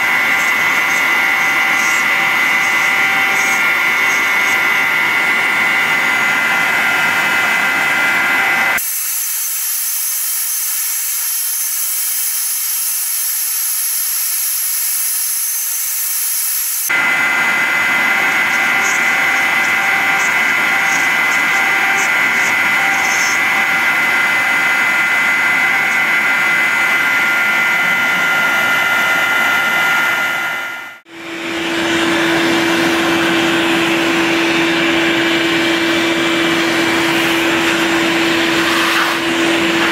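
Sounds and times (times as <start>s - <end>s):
cnc router spindle whine: 0.0s - 39.9s
vacuum cleaner hum: 0.0s - 39.9s.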